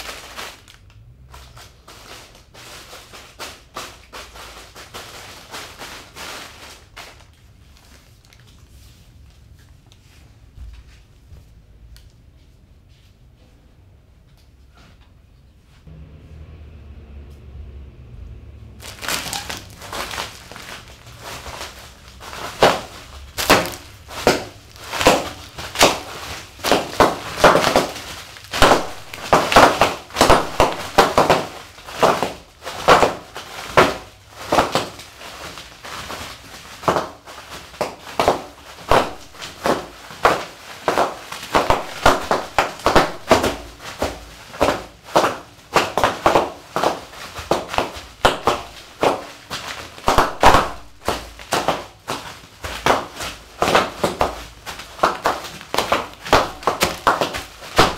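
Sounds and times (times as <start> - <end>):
feet crunching foil-wrapped cookies: 0.0 - 9.8, 18.8 - 57.9.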